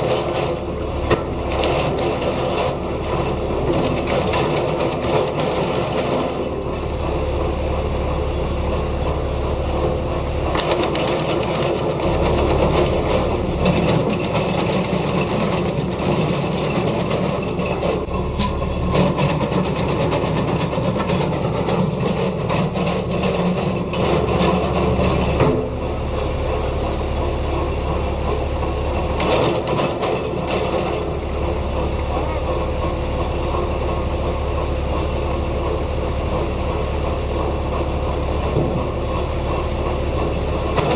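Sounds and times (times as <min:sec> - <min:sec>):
wood chipper running: 0:00.0 - 0:40.9.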